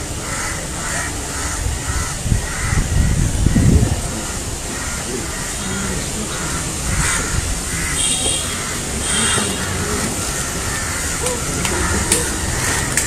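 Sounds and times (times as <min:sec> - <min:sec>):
bird calling: 0:00.2 - 0:13.0.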